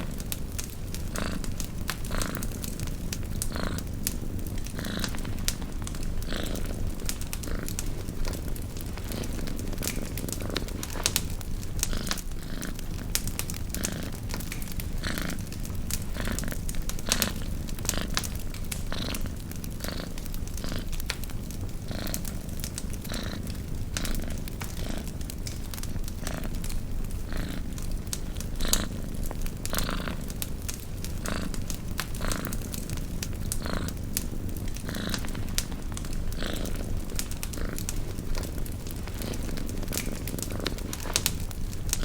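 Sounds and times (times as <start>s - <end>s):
campfire crackling and popping: 0.0s - 42.0s
cat purring: 0.0s - 42.0s.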